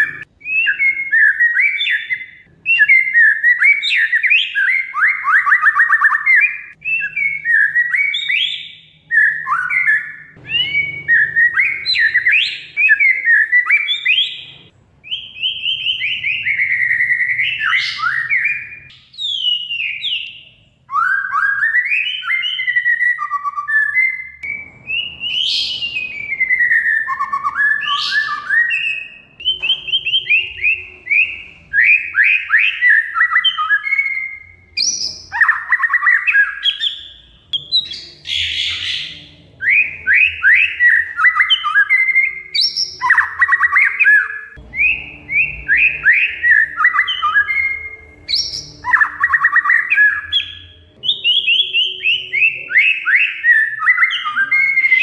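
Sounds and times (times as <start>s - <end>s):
bird singing whistled song: 0.0s - 55.0s.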